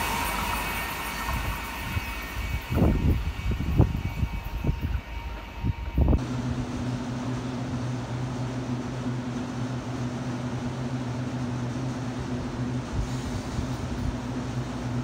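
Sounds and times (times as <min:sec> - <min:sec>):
fan-like hiss: 0:00.0 - 0:15.0
train electric hum: 0:00.0 - 0:15.0.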